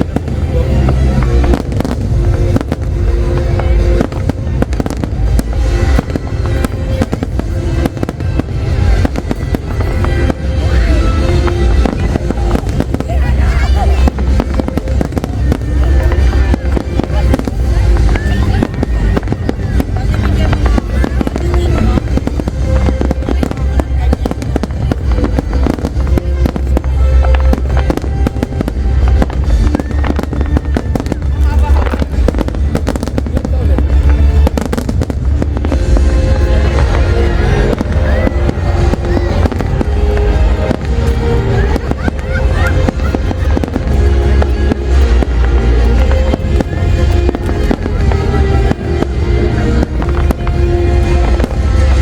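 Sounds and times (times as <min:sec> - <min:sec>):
deep continuous rumble: 0:00.0 - 0:52.0
fireworks bangs and crackles: 0:00.0 - 0:52.0
music playing: 0:00.0 - 0:52.0.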